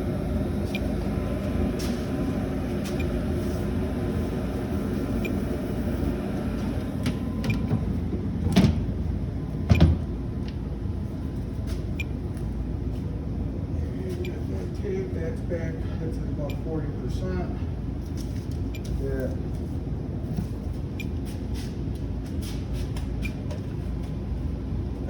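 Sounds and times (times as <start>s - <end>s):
furnace humming: 0.0s - 25.0s.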